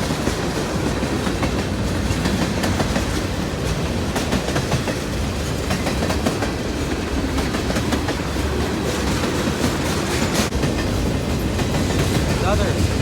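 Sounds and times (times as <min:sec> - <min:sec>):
freight train rumble: 0:00.0 - 0:13.0
train wheels clicking over rail joints: 0:00.0 - 0:13.0.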